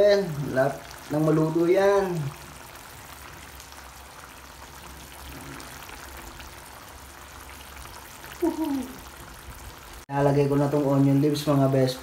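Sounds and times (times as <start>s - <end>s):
stew bubbling in a pan: 0.0s - 12.0s.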